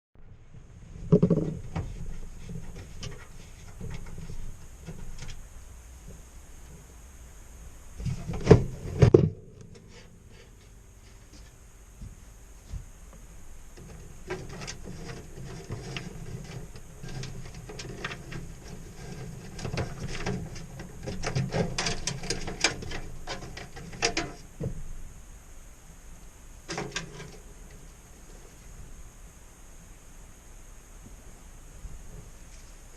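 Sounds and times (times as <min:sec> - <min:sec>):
low steady hum: 0:00.2 - 0:32.9.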